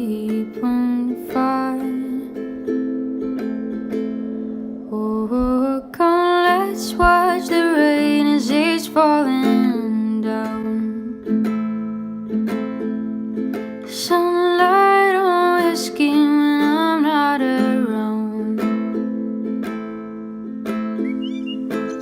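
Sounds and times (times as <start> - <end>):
person singing: 0.0 - 4.0, 4.8 - 12.9, 13.6 - 19.8
plucked strings: 0.0 - 22.0.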